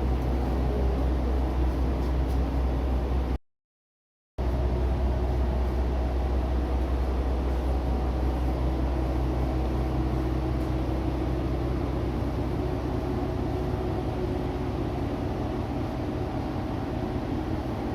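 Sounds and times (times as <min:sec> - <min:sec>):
diesel railcar engine rumbling: 0:00.0 - 0:03.4, 0:04.4 - 0:17.9.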